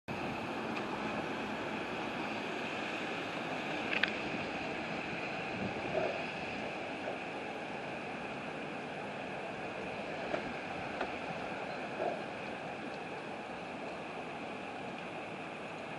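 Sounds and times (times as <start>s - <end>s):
wind blowing: 0.1s - 15.9s.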